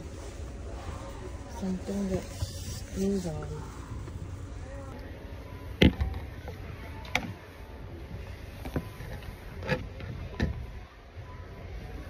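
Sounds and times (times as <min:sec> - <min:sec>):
low store hum: 0:00.0 - 0:12.0.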